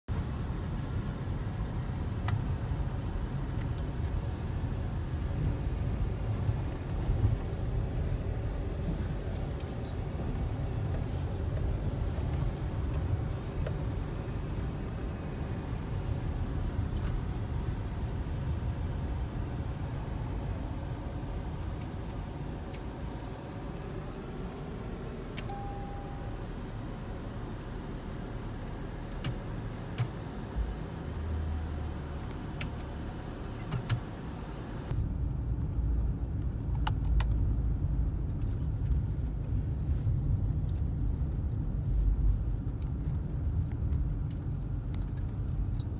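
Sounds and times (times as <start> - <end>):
car engine and tyre rumble: 0.0 - 45.9.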